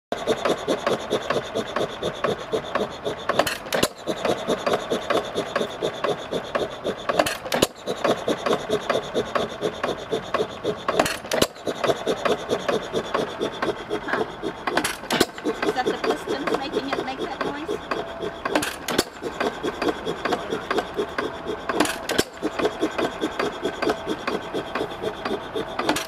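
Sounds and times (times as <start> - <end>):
mechanical clatter: 0.1 - 26.0.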